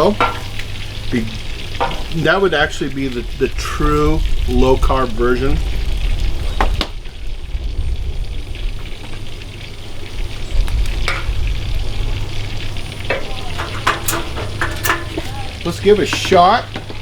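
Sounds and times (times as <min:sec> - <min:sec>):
steak sizzling in grease: 0:00.0 - 0:17.0.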